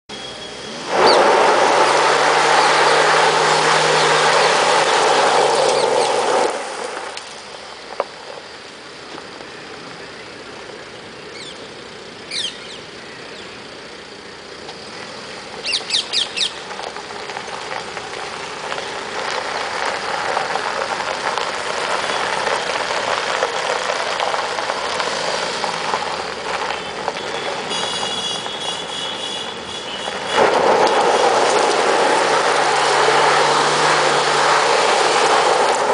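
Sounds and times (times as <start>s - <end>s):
diesel engine running hard: 0.1s - 35.9s
tyres scrabbling on loose dirt: 0.9s - 9.5s, 14.6s - 35.9s.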